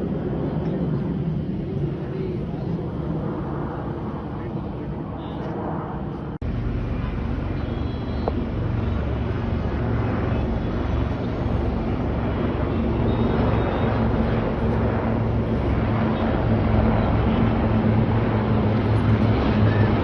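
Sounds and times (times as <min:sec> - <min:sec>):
aircraft engines droning overhead: 0:00.0 - 0:20.0.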